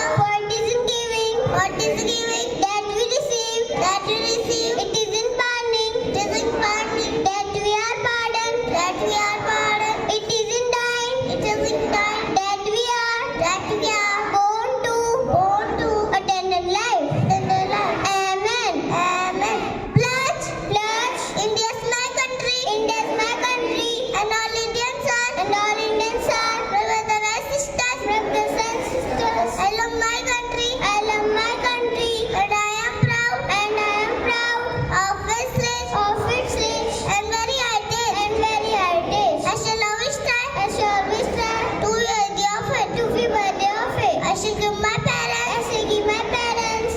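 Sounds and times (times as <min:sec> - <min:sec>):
children singing: 0:00.0 - 0:46.9.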